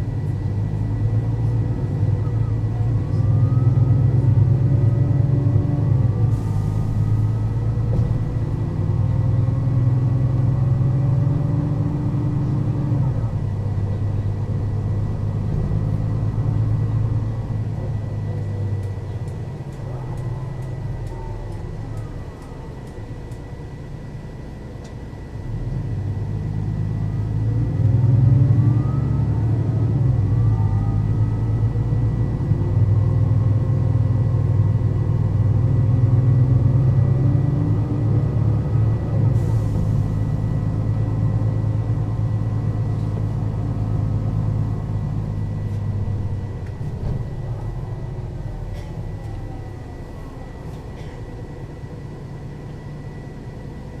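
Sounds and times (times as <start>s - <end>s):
bus engine accelerating: 0.0s - 54.0s.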